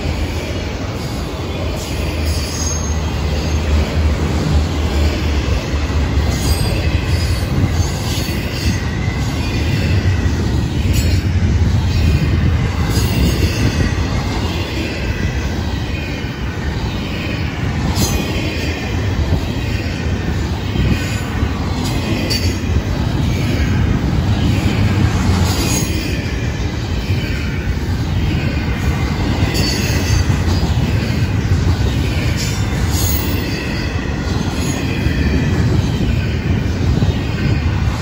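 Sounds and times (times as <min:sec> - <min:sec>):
steel wheels rumbling on rail: 0:00.0 - 0:38.0.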